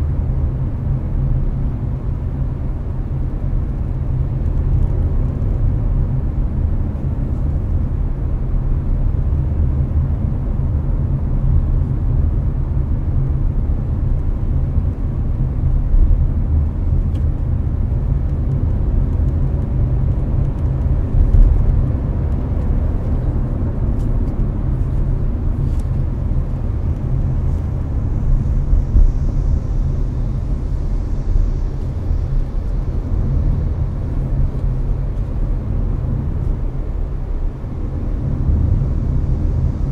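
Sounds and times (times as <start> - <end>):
air conditioner blowing: 0.0 - 39.9
road and engine rumble in car: 0.0 - 39.9.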